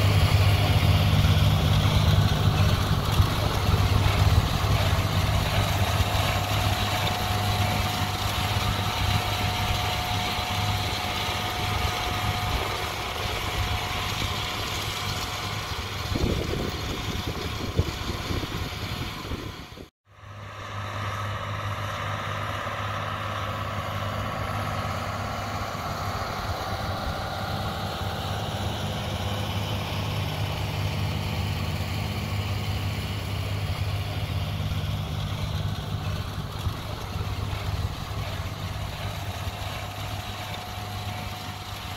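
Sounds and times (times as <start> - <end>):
thin steady whine: 0.0 - 41.9
tractor engine running: 0.0 - 41.9.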